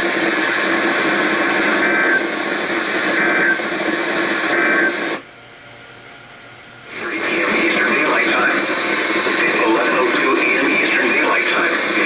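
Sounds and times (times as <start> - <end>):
radio hiss: 0.0 - 5.2, 6.9 - 12.0.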